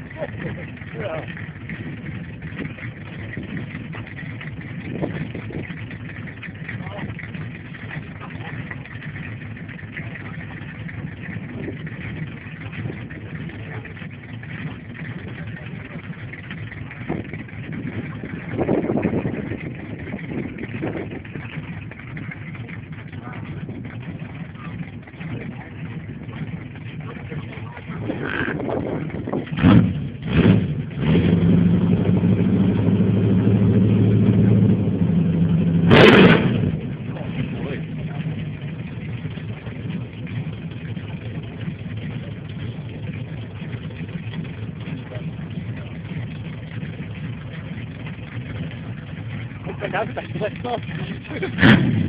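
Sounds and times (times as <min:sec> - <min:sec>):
car engine idling: 0:00.0 - 0:52.0
sharp exhaust crack: 0:00.0 - 0:52.0.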